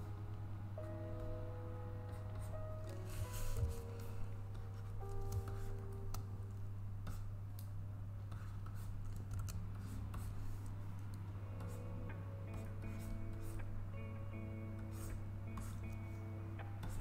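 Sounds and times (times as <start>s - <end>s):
soft background music: 0.0s - 17.0s
steady low hum: 0.0s - 17.0s.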